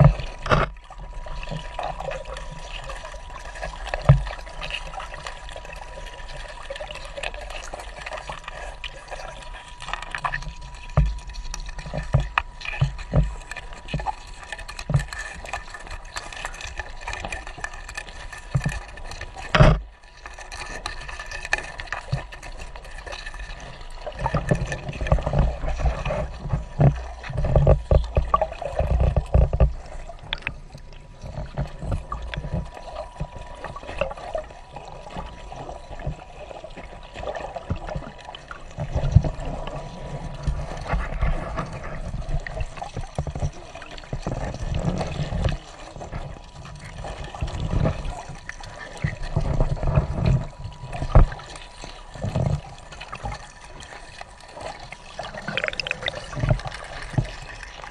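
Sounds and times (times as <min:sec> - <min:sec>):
water splashing and trickling: 0:00.0 - 0:57.9.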